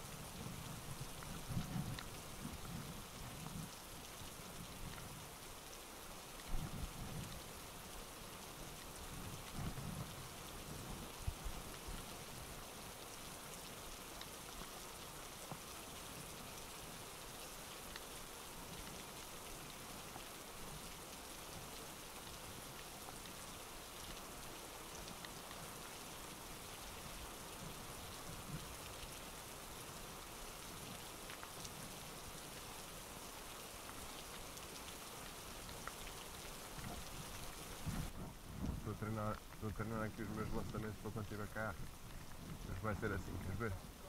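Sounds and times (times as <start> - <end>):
rain falling on water: 0.0 - 44.0.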